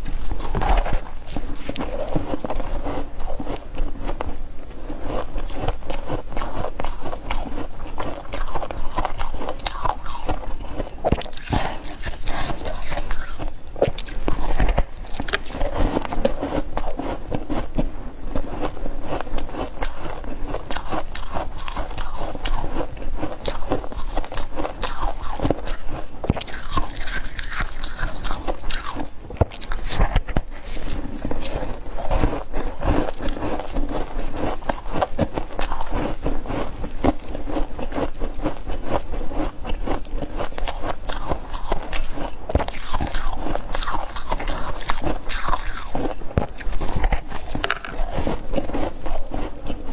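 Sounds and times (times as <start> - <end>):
person chewing ice crunching: 0.0 - 49.9.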